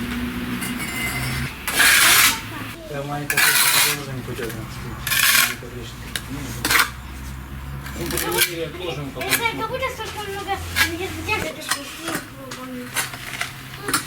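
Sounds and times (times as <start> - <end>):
trowel scraping mortar: 0.9 - 2.5, 3.2 - 7.0, 7.9 - 14.0.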